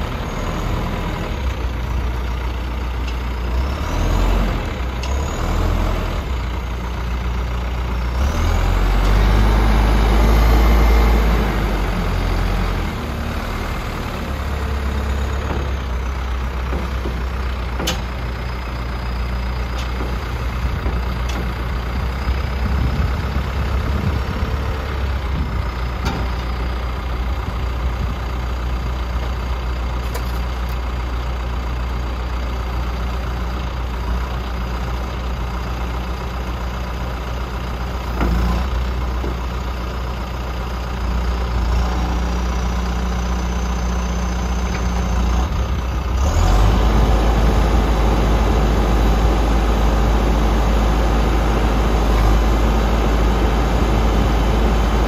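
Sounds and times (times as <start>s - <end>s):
backhoe diesel engine running: 0.0s - 55.0s.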